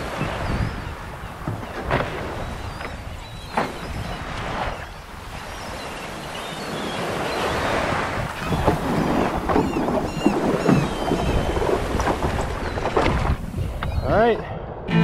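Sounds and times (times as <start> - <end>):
wind buffeting microphone: 0.0 - 5.9, 7.0 - 14.8
surf washing on shore: 0.0 - 14.0
water splashing around paddleboard: 0.0 - 14.0.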